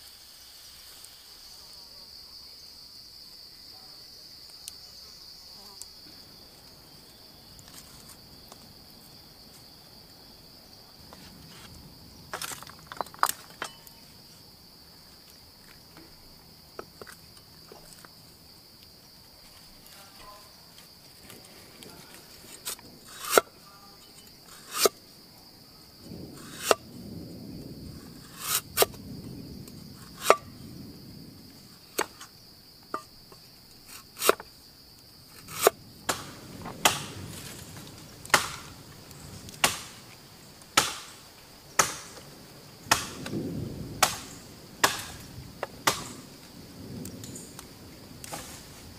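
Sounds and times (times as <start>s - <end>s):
high insect drone: 0.0s - 48.9s.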